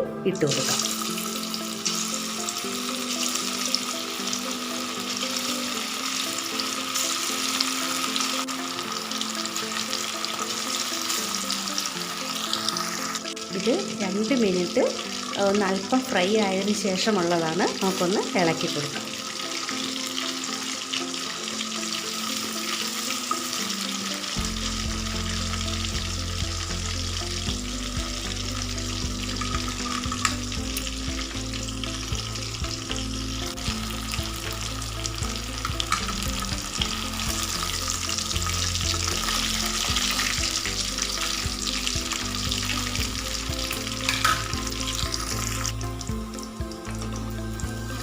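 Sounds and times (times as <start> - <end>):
food sizzling in hot oil: 0.3 - 48.0.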